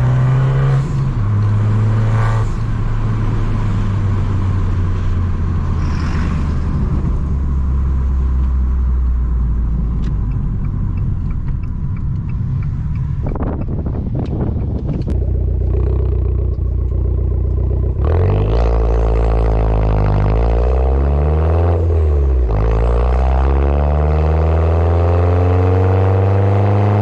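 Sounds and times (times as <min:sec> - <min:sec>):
car exhaust drone: 0:00.0 - 0:27.0.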